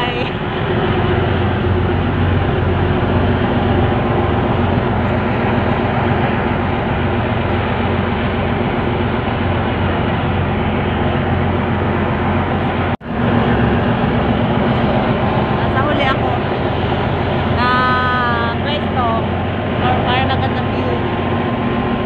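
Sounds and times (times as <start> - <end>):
churning wake: 0.0 - 22.0
ferry engines humming: 0.0 - 22.0
wind rushing: 0.0 - 22.0.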